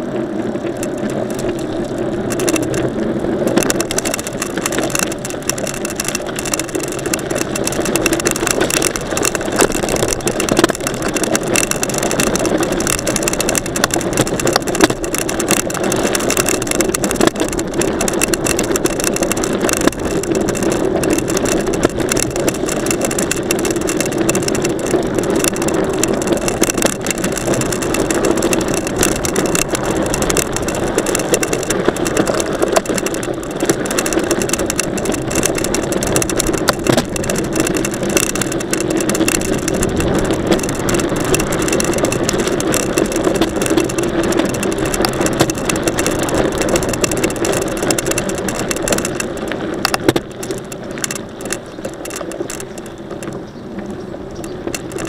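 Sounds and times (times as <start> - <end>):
mountain bike ride noise: 0.0 - 55.0
small clicks and rattles: 0.0 - 55.0.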